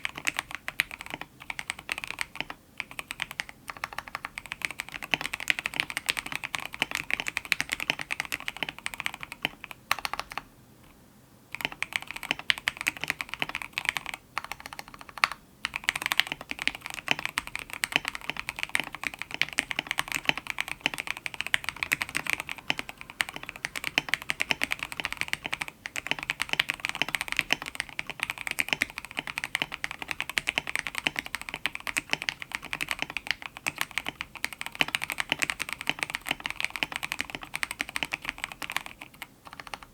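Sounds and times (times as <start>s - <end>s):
typing on mechanical keyboard: 0.0s - 10.5s, 11.5s - 39.9s.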